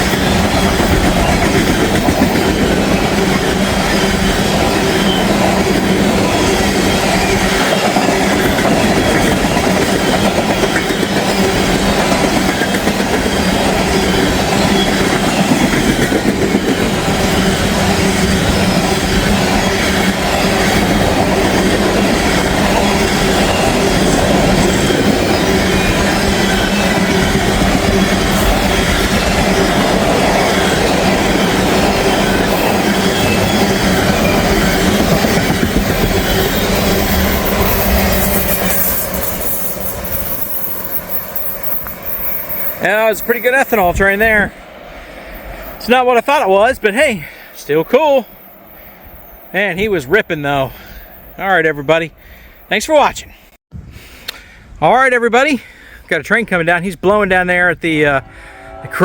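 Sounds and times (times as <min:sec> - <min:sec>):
train wheels on rails: 0:00.0 - 0:54.4.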